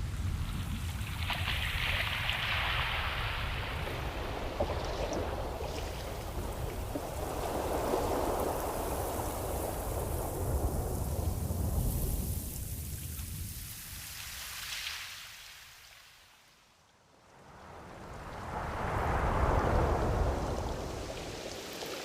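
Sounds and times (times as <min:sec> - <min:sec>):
waves washing in: 0:00.0 - 0:16.5, 0:17.3 - 0:22.0.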